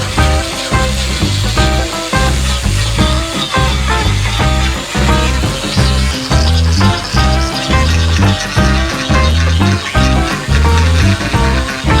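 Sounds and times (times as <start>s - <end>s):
background music with bass pulse: 0.0s - 12.0s.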